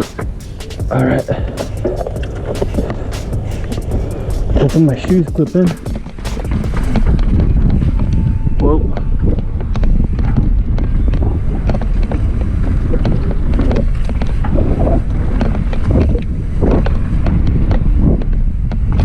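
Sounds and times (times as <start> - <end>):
wind buffeting microphone: 2.1 - 19.0.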